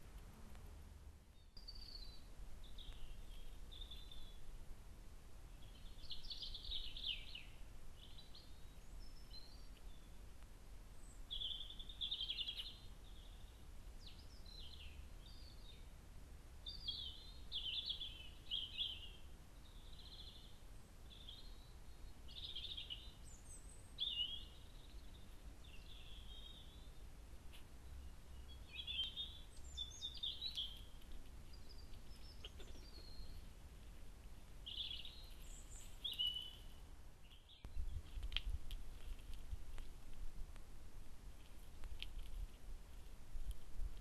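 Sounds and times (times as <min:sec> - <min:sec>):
songbirds singing: 0:01.2 - 0:04.6, 0:05.3 - 0:16.0, 0:16.6 - 0:39.9.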